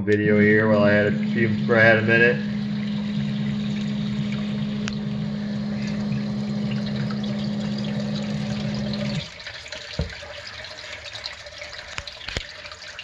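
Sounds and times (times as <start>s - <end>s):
sump pump humming: 0.0s - 13.0s
water rushing: 0.4s - 13.0s.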